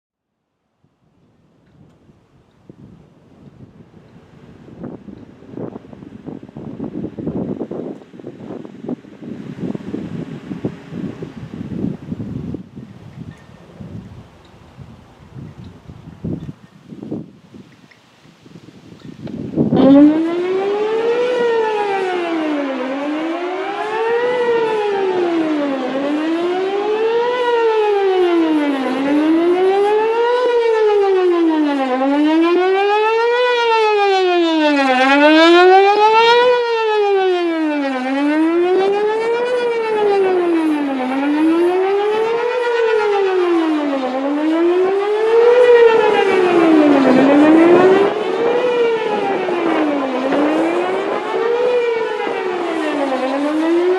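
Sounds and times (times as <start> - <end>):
wailing warning siren: 3.5 - 12.6, 19.2 - 53.9.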